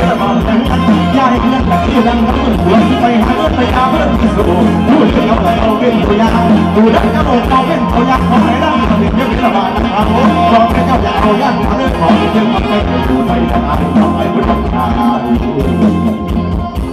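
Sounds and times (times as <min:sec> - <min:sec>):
drum beat: 0:00.0 - 0:16.9
heavy bass: 0:00.0 - 0:16.9
live band music through loudspeakers: 0:00.0 - 0:16.9.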